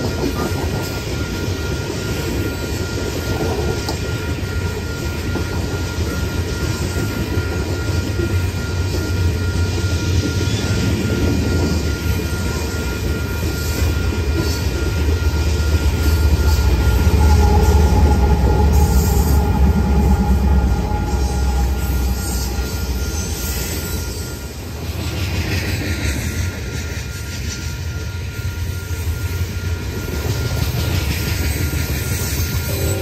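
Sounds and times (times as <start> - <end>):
diesel locomotive engine rumble: 0.0 - 33.0
freight train rolling past: 0.0 - 33.0
wheels squealing on rails: 0.0 - 33.0.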